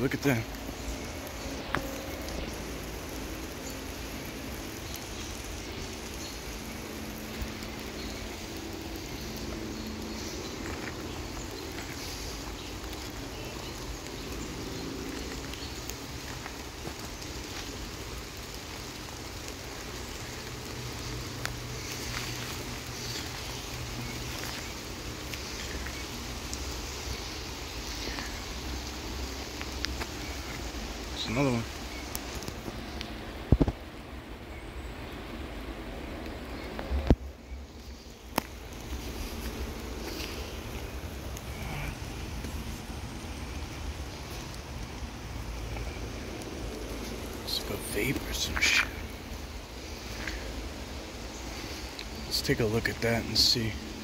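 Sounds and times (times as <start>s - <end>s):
heavy rain hissing: 0.0s - 54.0s
raindrops ticking on leaves: 0.0s - 54.0s.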